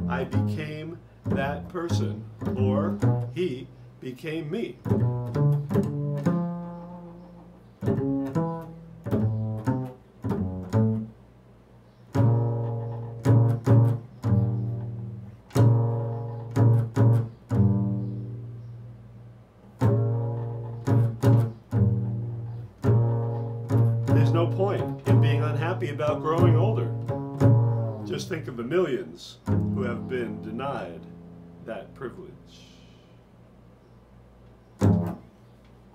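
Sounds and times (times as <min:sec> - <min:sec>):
double bass plucked: 0:00.0 - 0:35.9.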